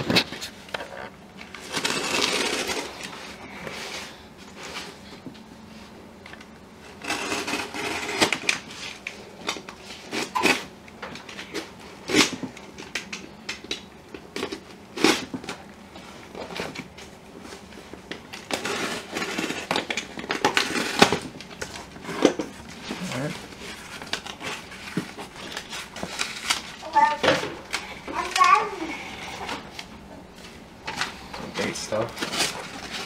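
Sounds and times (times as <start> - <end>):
cardboard and tape rustling: 0.0 - 33.0.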